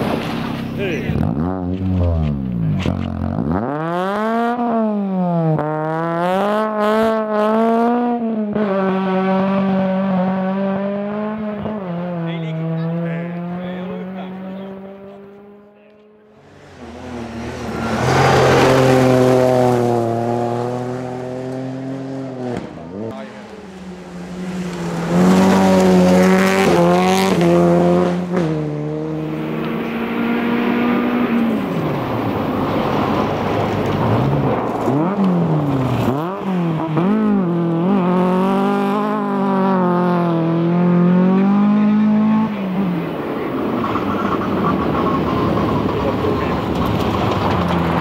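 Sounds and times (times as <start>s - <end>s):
rally cars at full throttle: 0.0s - 48.0s.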